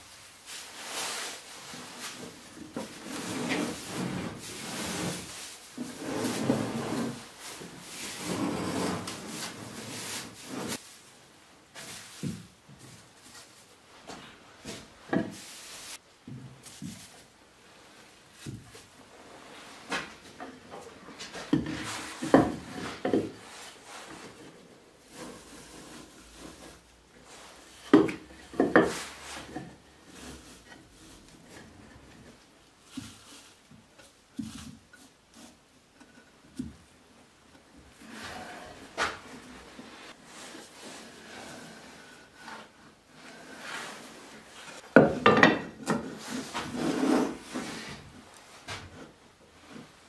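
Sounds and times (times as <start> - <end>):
wood rubbing and shuffling: 0.0 - 50.0
wood scraping: 0.6 - 10.8, 17.9 - 50.0.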